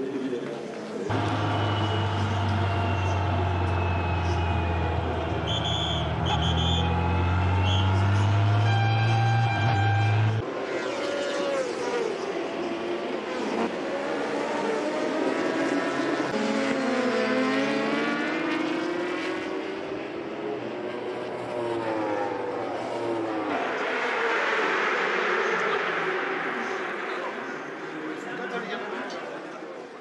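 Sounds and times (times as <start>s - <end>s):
racing motorcycle engines passing: 0.6s - 28.3s.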